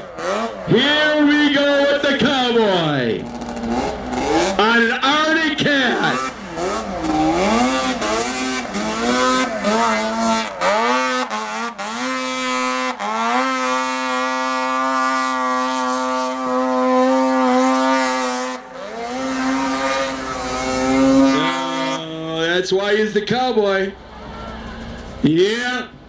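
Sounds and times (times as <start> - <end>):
snowmobile engine revving: 0.0 - 25.8.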